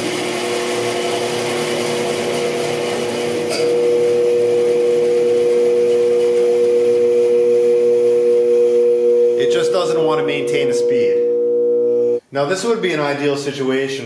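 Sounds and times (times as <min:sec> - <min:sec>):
bandsaw motor humming with whine: 0:00.0 - 0:12.2.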